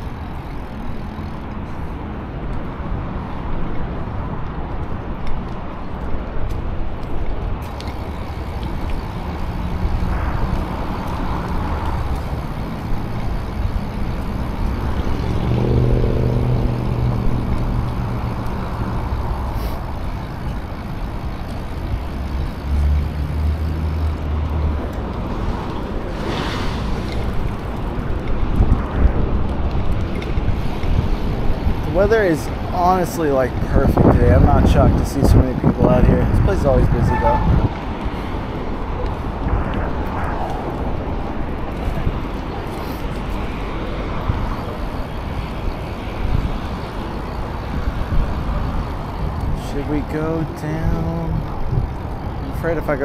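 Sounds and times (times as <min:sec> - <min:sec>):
engine hum: 0:00.0 - 0:53.0
road traffic: 0:00.0 - 0:53.0
wind and bike rolling noise: 0:00.0 - 0:53.0.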